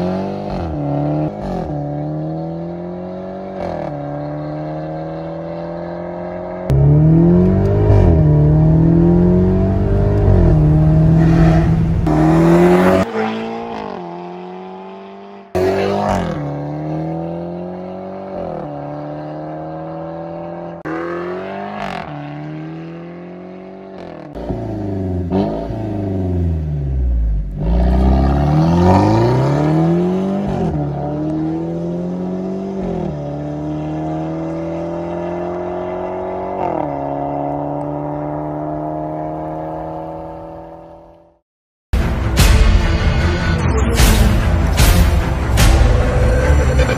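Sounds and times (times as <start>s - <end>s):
car engine accelerating hard: 0.0s - 41.3s.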